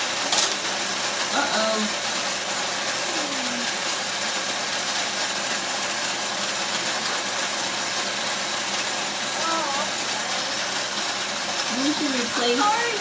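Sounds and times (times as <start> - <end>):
small motor whirring: 0.0 - 13.0.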